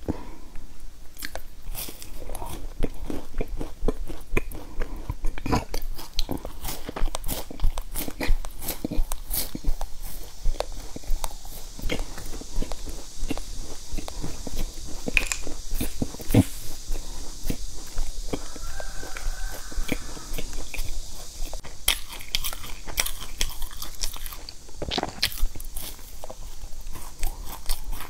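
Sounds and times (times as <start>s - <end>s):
biscuit crunching: 1.2s - 28.0s.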